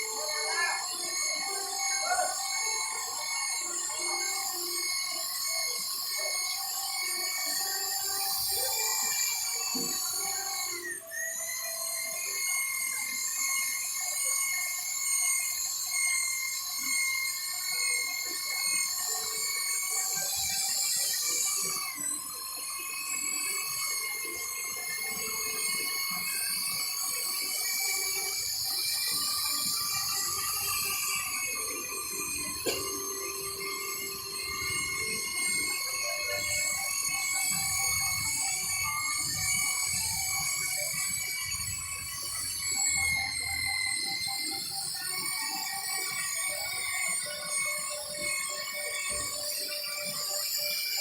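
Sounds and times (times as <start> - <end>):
polishing machine whining: 0.0 - 51.0.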